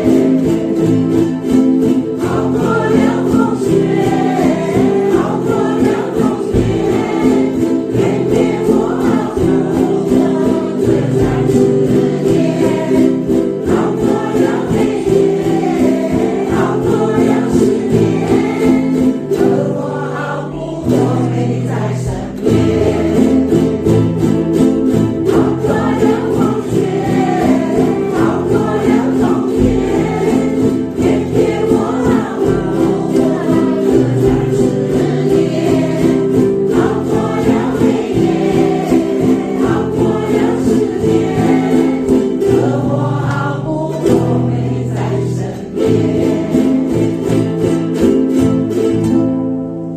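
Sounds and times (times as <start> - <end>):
group singing: 0.0 - 49.2
strummed ukuleles: 0.0 - 49.9.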